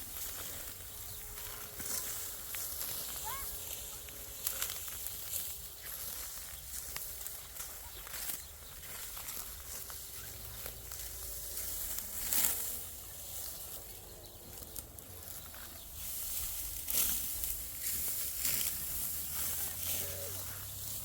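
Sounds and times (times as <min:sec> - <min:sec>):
outdoor rustling and hissing: 0:00.0 - 0:21.0.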